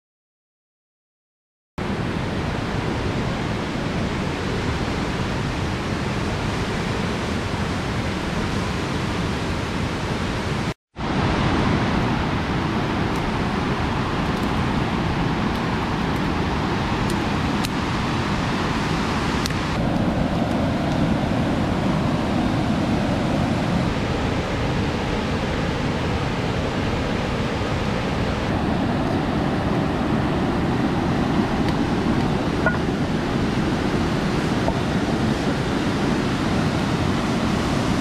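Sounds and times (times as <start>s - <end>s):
fast-flowing river rushing: 1.8s - 38.0s.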